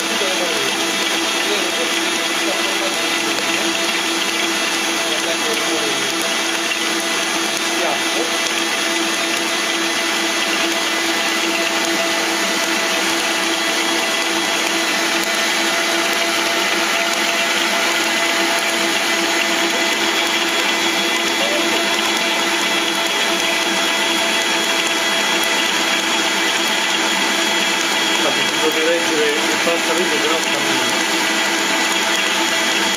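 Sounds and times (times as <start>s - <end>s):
stand mixer motor whine: 0.0s - 32.9s
dough hook kneading wet dough: 0.2s - 32.9s.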